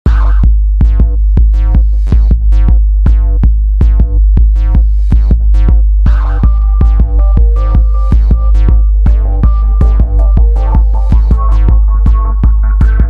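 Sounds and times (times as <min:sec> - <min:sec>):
loud electronic music: 0:00.1 - 0:13.0.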